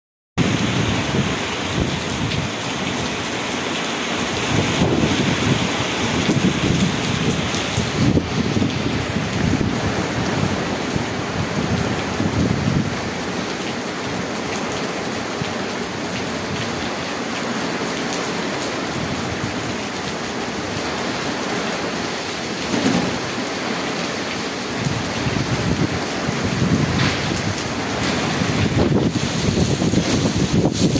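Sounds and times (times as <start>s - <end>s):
heavy rain on grass and paving: 0.4s - 30.9s.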